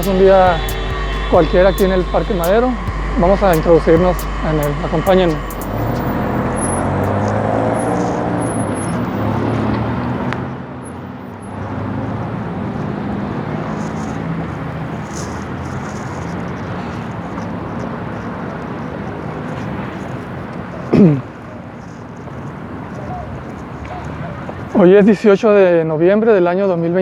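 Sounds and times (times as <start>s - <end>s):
road traffic hum: 0.0s - 25.8s.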